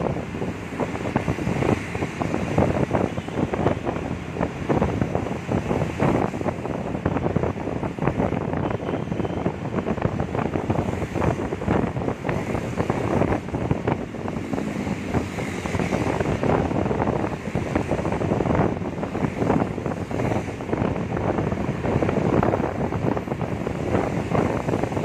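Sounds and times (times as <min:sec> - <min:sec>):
road and traffic noise: 0:00.0 - 0:25.0
wind buffeting microphone: 0:00.0 - 0:25.0.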